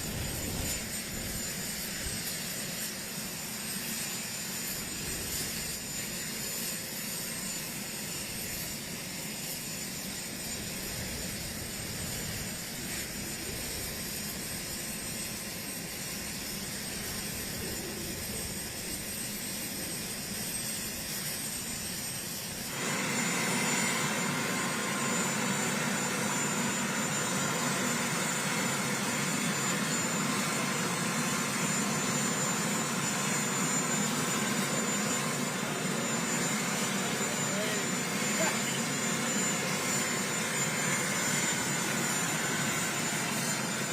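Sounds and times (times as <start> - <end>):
helicopter turbine whine: 0.0 - 43.9.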